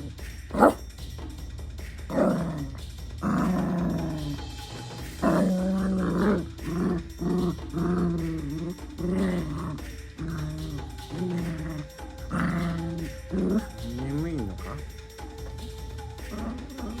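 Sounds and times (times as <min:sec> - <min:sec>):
puppy growling: 0:00.0 - 0:00.8, 0:02.1 - 0:14.9, 0:16.2 - 0:17.0.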